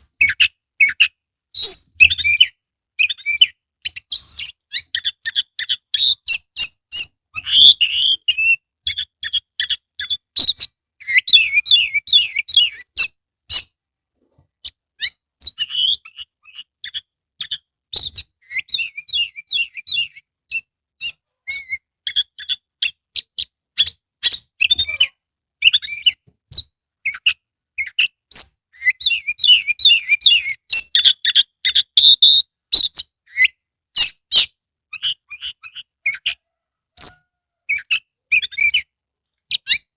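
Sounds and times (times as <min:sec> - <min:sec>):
bird singing whistles and chirps: 0:00.0 - 0:13.7, 0:14.6 - 0:36.4, 0:37.0 - 0:38.9.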